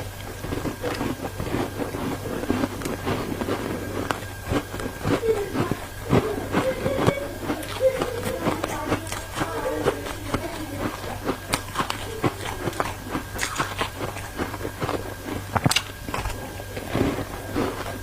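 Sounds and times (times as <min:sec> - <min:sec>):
ice crunching between teeth: 0:00.0 - 0:18.0
steady low hum: 0:00.0 - 0:18.0.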